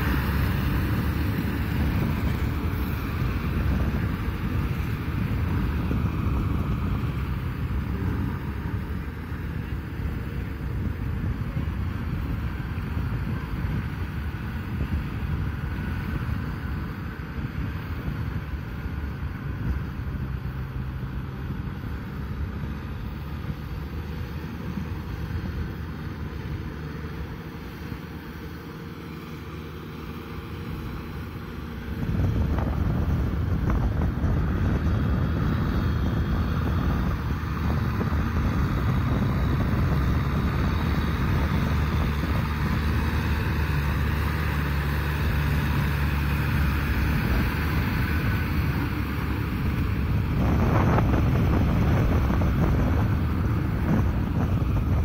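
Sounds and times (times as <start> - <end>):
wind buffeting microphone: 0.0 - 29.0, 29.8 - 55.0
tractor diesel engine running: 0.0 - 55.0.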